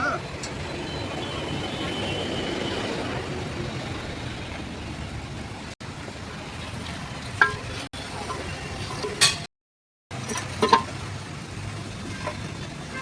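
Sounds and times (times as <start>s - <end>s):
road traffic rumble: 0.0s - 9.5s, 10.1s - 13.0s.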